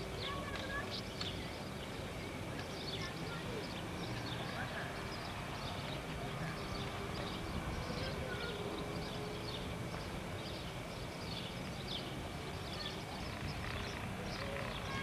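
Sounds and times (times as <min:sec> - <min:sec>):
wind rumble and hiss: 0:00.0 - 0:15.0.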